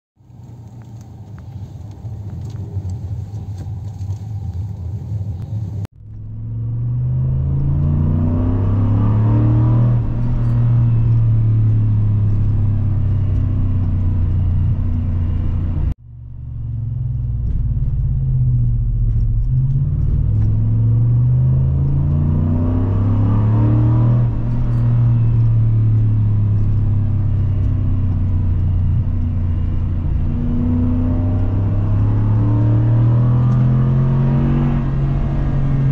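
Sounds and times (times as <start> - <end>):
car engine accelerating: 0.2 - 35.9.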